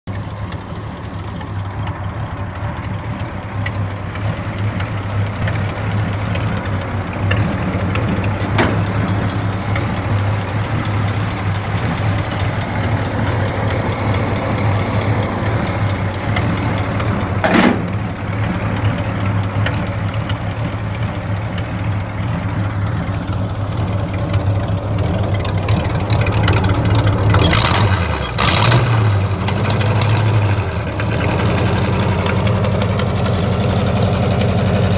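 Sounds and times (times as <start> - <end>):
tractor engine idling: 0.0 - 34.9.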